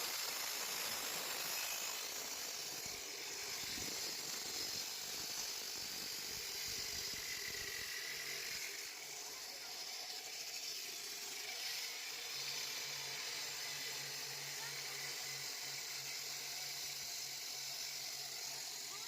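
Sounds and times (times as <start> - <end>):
saw cutting concrete: 0.0 - 19.0.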